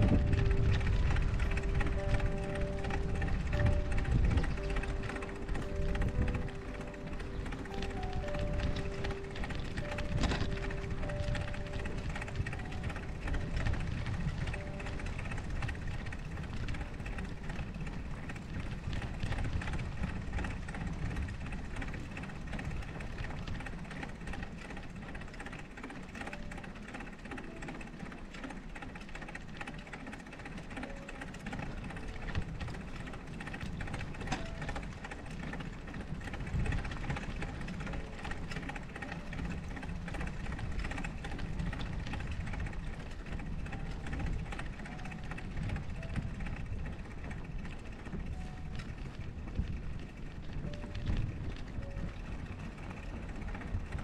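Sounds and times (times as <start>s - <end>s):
snowstorm wind buffeting microphone: 0.0s - 54.0s.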